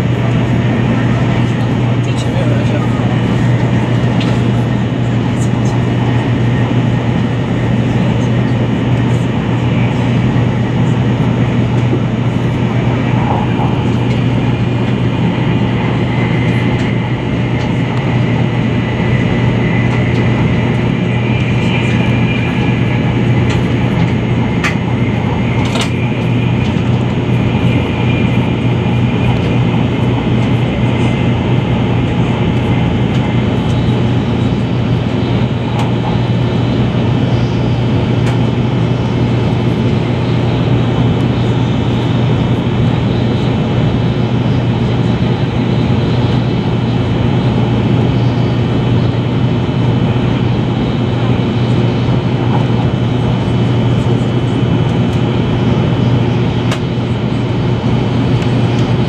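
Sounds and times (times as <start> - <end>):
train cabin drone: 0.0 - 59.0.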